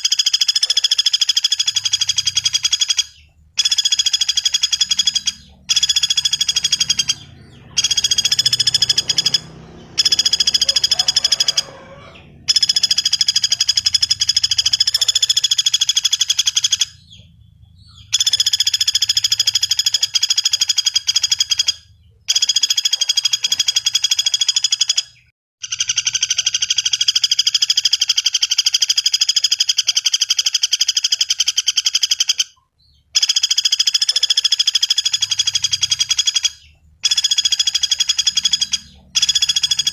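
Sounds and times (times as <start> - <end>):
woodpecker rattling trills: 0.0 - 39.9.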